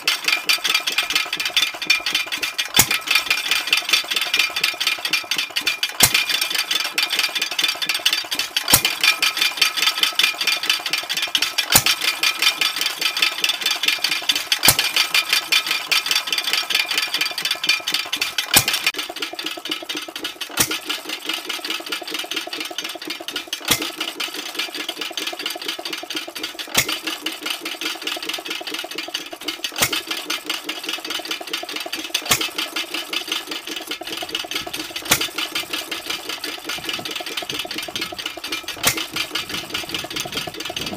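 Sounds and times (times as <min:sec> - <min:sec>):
engine mechanical clatter: 0:00.0 - 0:40.9.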